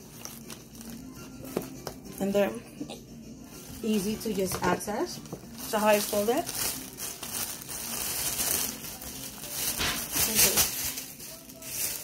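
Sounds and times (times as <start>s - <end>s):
plastic bag rustling: 0.0s - 2.5s, 3.5s - 12.0s.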